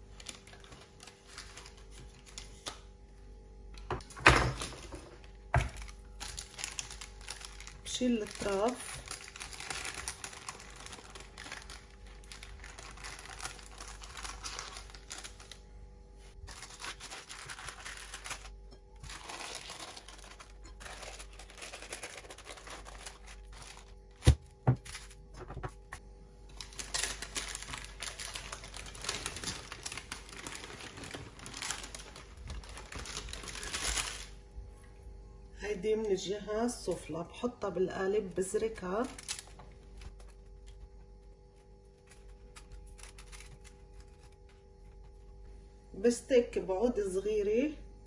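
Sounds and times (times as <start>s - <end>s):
baking paper rustling: 0.0s - 3.0s, 4.4s - 26.0s, 26.6s - 34.7s, 38.2s - 45.5s.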